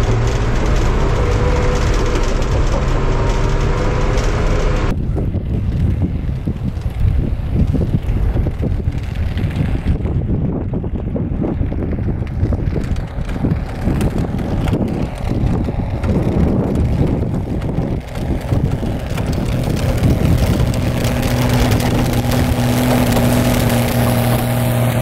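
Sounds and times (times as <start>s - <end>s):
snow plow engine humming: 0.0s - 25.0s
wind buffeting microphone: 0.0s - 25.0s.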